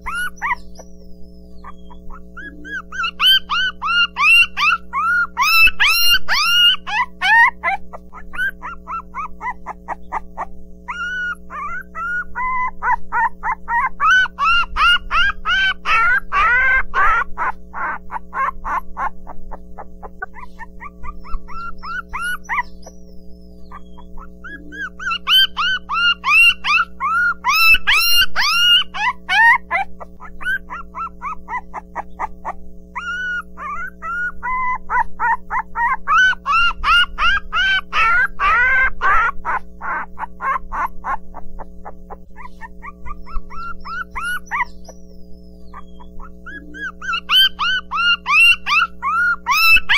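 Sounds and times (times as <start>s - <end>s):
puppy whining: 0.0s - 49.9s
puppy yipping: 0.0s - 49.9s.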